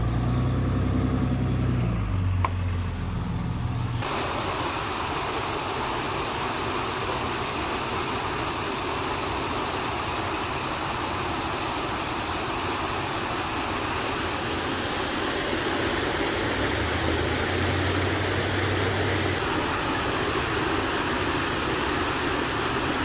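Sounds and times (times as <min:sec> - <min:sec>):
engine idling: 0:01.3 - 0:23.0
steady rushing noise: 0:03.7 - 0:23.0.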